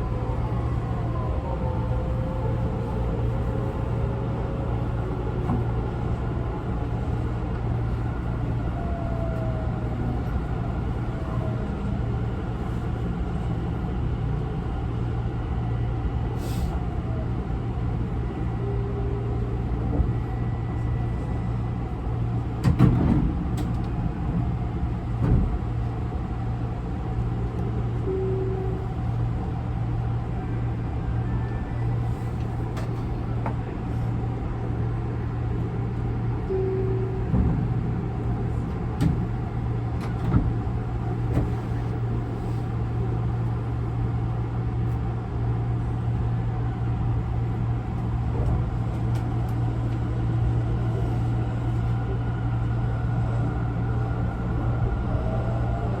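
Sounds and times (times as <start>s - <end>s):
train interior rumble and hum: 0.0s - 56.0s.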